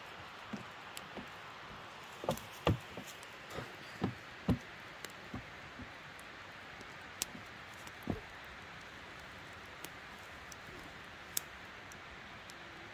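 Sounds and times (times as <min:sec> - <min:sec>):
faint steady hiss: 0:00.0 - 0:12.9.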